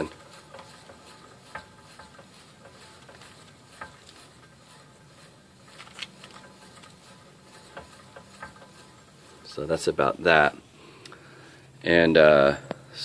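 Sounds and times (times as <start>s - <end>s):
wheel bearing grinding: 0.0s - 13.0s.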